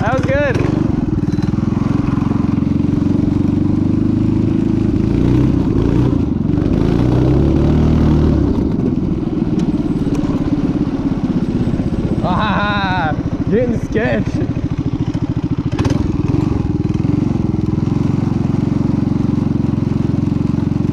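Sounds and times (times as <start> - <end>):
minibike engine revving: 0.0 - 20.9.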